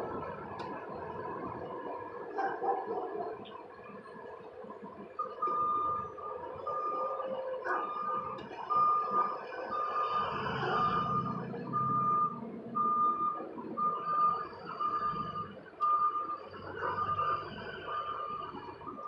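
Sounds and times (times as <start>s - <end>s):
vehicle backup alarm beeping: 0.0s - 19.0s.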